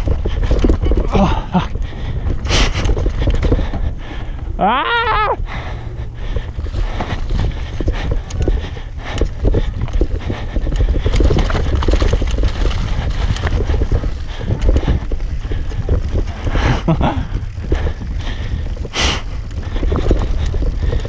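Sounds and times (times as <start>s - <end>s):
tyre rumble on dirt: 0.0s - 4.6s, 5.4s - 21.0s
wind buffeting: 0.0s - 21.0s.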